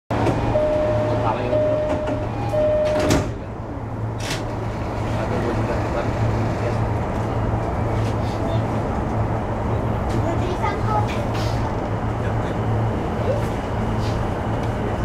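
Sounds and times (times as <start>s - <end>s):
electric train low hum: 0.1s - 15.0s.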